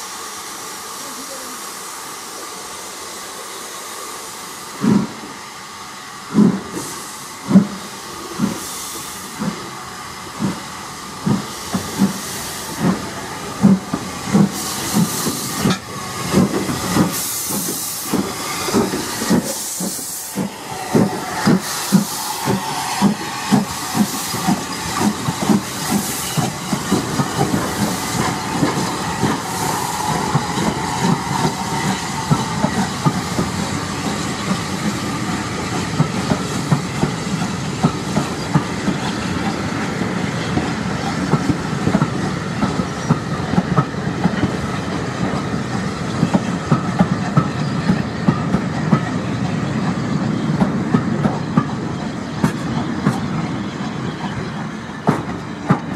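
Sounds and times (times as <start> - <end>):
hiss of steam: 0.0 - 49.8
clickety-clack of train wheels: 4.8 - 5.3, 6.3 - 55.9
steam locomotive exhaust beating: 6.2 - 55.9.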